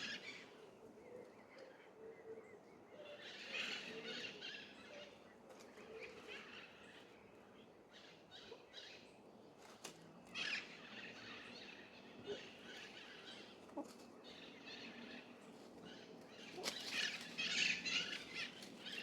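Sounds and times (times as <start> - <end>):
faint bird calls and chirps: 0.0 - 19.0.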